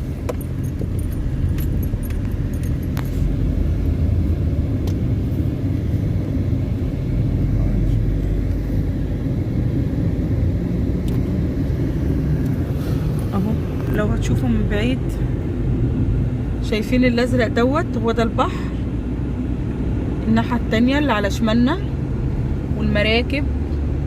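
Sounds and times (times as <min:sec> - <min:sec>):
car interior road rumble: 0:00.0 - 0:24.0.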